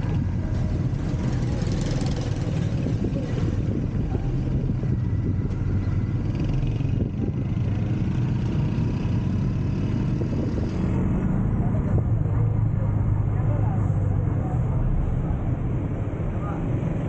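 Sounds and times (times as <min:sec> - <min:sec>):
road noise: 0:00.0 - 0:17.0
vehicle engine hum: 0:00.0 - 0:17.0.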